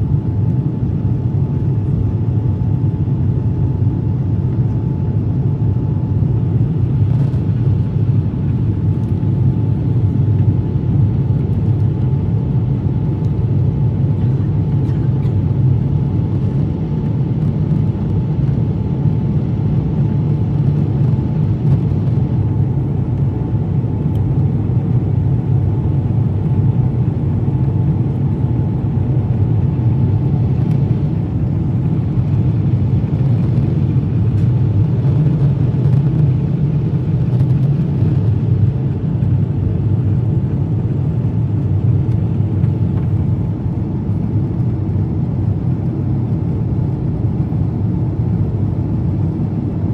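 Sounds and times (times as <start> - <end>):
jet engines and rushing air: 0.0 - 49.9.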